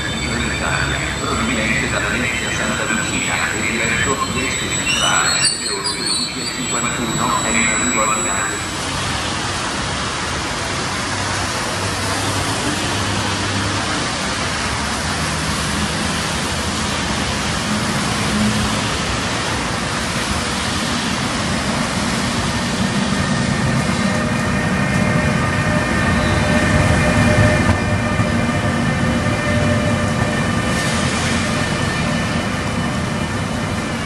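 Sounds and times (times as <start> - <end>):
electric locomotive humming: 0.0 - 34.0.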